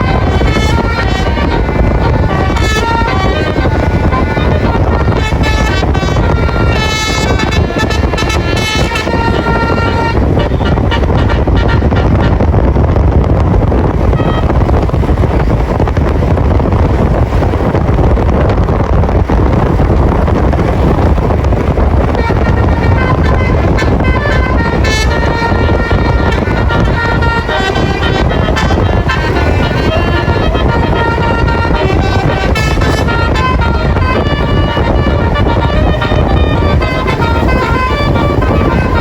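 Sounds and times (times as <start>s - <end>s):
multi-tone bus horn tune: 0.0s - 18.4s, 19.3s - 39.0s
loud road noise: 0.0s - 39.0s.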